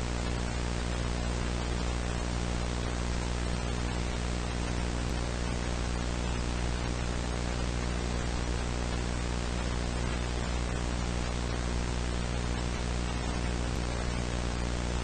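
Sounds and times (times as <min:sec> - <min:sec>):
static hiss: 0:00.0 - 0:15.0.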